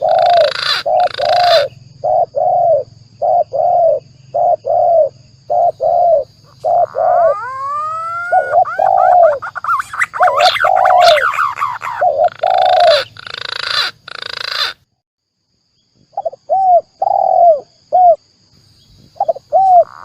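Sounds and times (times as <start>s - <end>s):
dove cooing: 0.0s - 14.8s, 16.2s - 18.2s, 19.0s - 20.0s.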